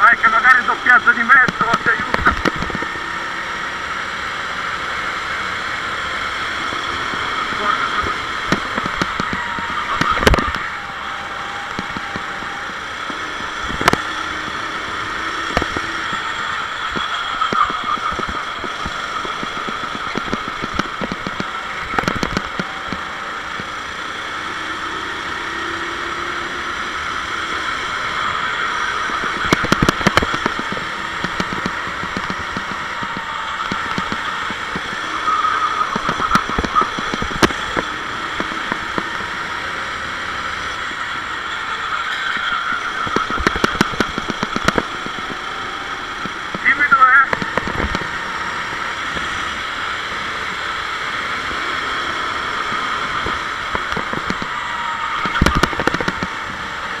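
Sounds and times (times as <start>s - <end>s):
kart engine running under load: 0.0s - 57.0s.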